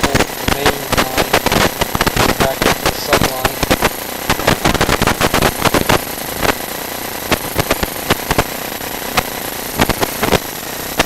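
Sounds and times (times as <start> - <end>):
mechanical hum with whine: 0.0 - 11.0.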